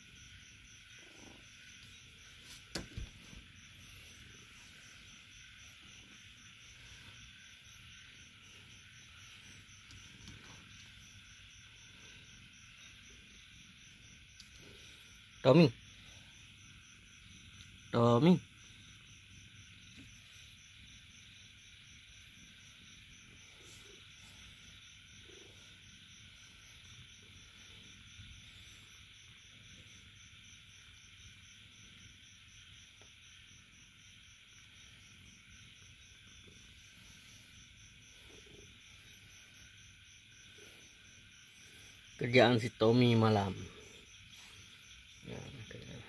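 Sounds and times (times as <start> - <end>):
faint hiss: 0.0 - 46.0
faint insect chirping: 0.0 - 46.0.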